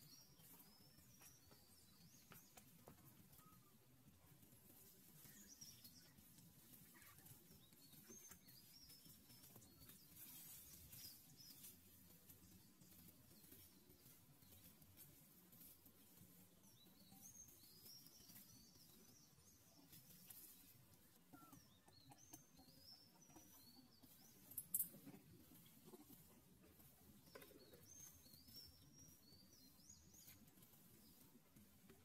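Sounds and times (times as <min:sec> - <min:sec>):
faint birds chirping: 0:00.0 - 0:32.0.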